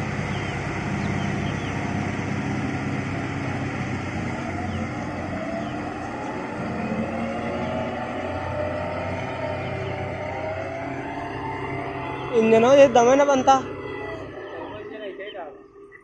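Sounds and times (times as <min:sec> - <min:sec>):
combine harvester engine running: 0:00.0 - 0:16.0
wavering whine: 0:00.0 - 0:16.0.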